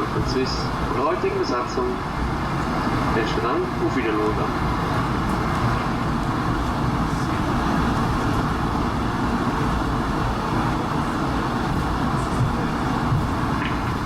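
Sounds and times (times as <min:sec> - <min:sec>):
aircraft cabin rumble: 0:00.0 - 0:14.0
jet engines humming: 0:00.0 - 0:14.0.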